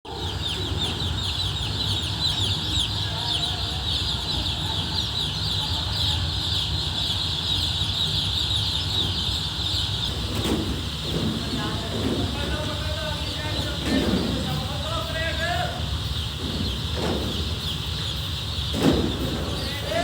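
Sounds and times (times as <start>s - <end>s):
chicks peeping: 0.1s - 20.0s
steady low hum: 0.1s - 20.0s.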